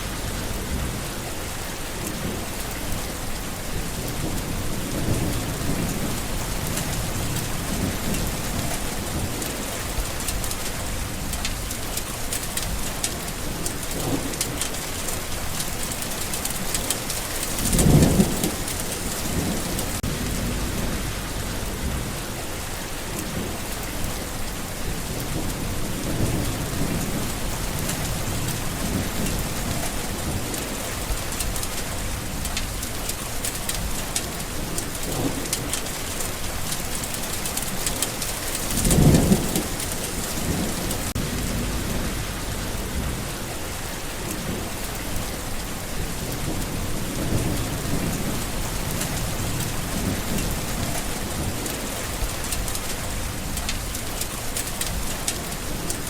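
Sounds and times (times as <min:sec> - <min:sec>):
heavy rain falling: 0:00.0 - 0:56.0
thunder rumbling: 0:00.0 - 0:56.0.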